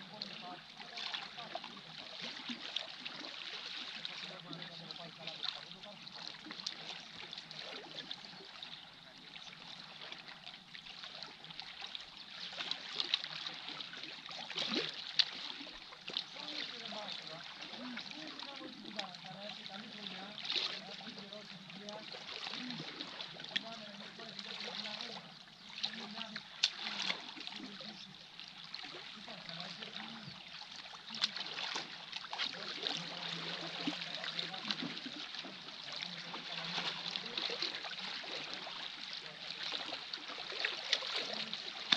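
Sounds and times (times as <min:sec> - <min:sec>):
sea water lapping on boulders: 0:00.0 - 0:41.9.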